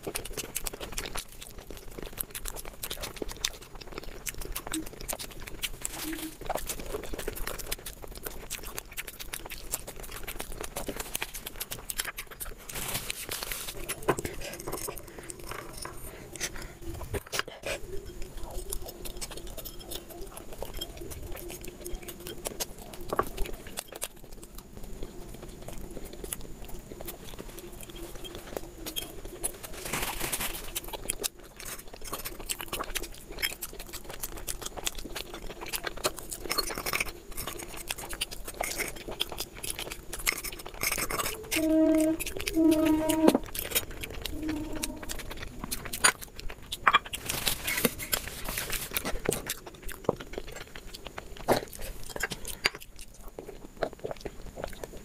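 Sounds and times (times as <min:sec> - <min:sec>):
close chewing and mouth sounds: 0:00.0 - 0:55.0.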